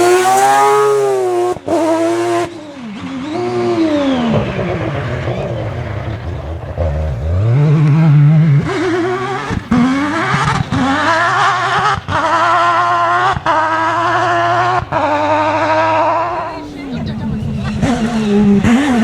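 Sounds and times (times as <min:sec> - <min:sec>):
rotary engine accelerating: 0:00.0 - 0:19.0.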